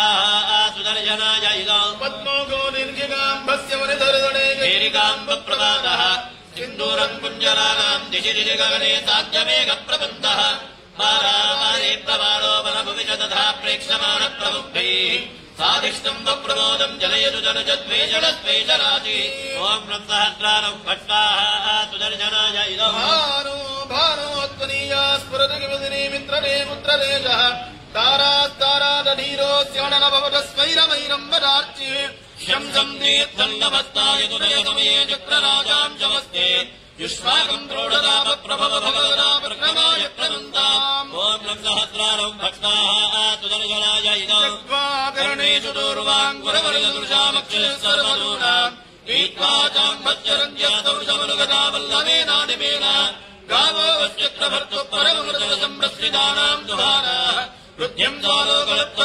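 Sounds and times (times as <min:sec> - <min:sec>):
man chanting mantras: 0:00.0 - 0:59.0.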